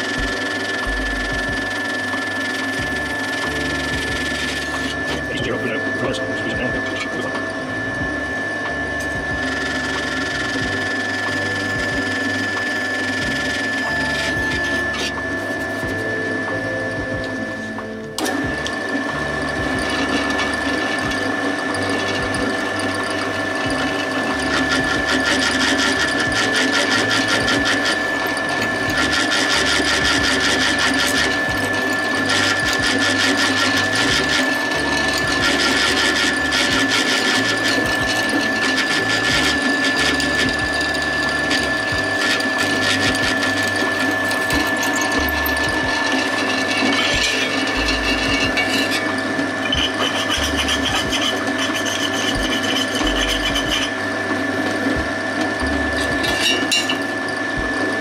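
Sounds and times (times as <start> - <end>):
low hum stepping up and down: 0.0 - 58.0
power tool machining metal: 0.0 - 58.0.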